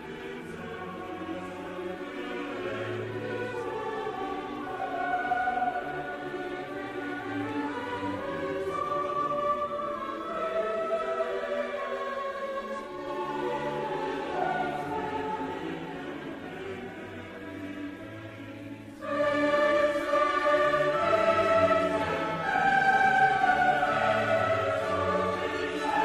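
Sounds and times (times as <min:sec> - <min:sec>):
choir singing sustained notes: 0:00.0 - 0:26.0.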